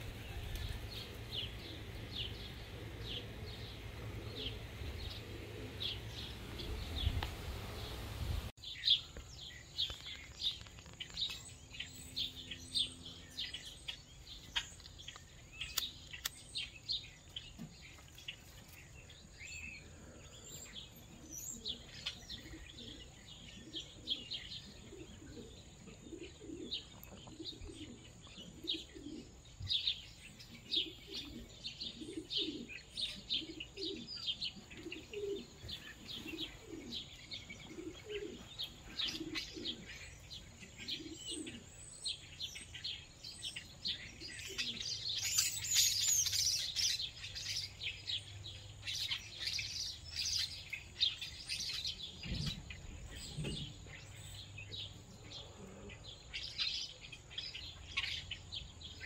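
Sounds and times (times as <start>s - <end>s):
pigeons cooing: 0.0s - 8.5s, 16.6s - 59.0s
small birds chirping: 0.0s - 59.0s.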